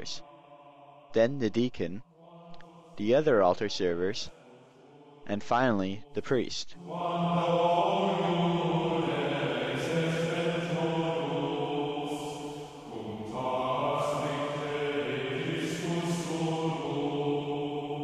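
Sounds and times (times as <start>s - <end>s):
slow sacred chant: 0.0s - 1.2s, 2.1s - 18.0s.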